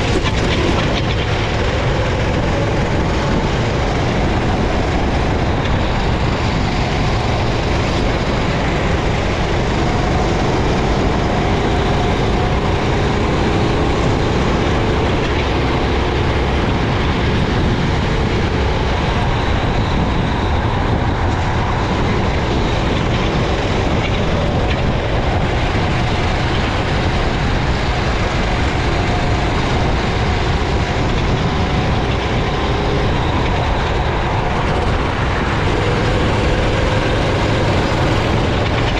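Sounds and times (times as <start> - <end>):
kart engine revving: 0.0 - 38.9
wet track noise: 0.0 - 38.9
wind rush: 0.0 - 38.9.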